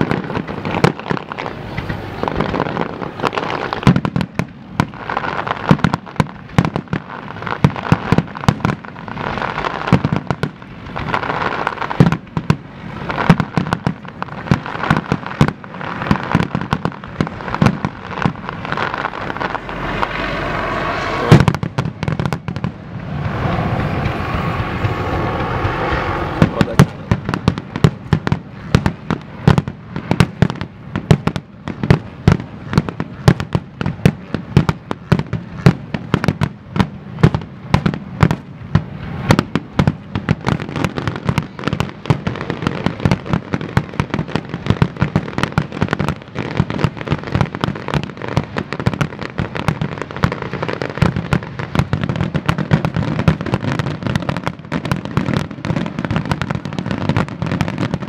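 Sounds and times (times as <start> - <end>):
fireworks booming: 0.0 - 58.0
fireworks crackling: 0.0 - 58.0.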